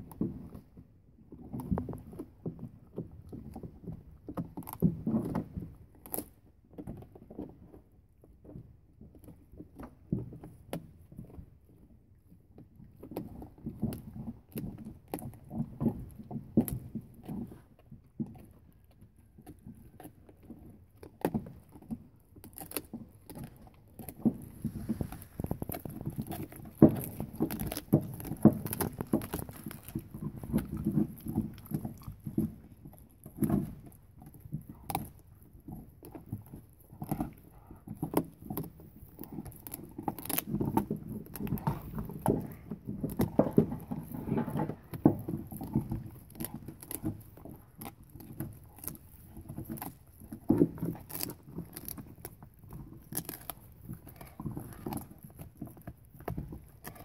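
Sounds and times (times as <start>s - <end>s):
dog chewing bone: 1.4s - 7.9s, 12.6s - 57.0s.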